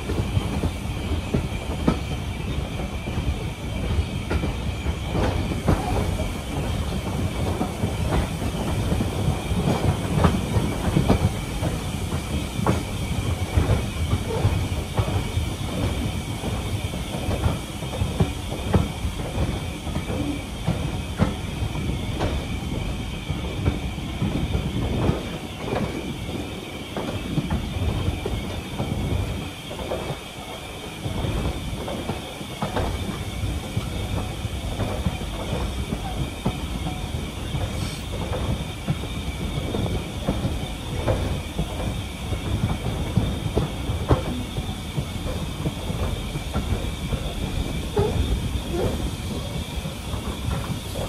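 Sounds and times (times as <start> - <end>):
train coach rumbling: 0.0 - 51.0
wheels clicking over track: 0.0 - 51.0.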